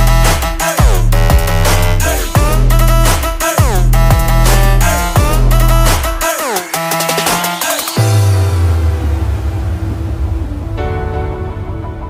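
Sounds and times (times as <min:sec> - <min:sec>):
electronic dance music: 0:00.0 - 0:11.4.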